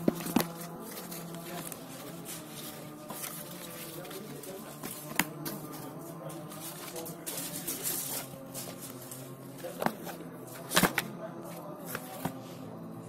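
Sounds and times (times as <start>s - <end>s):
paper and card rustling: 0.0s - 12.5s.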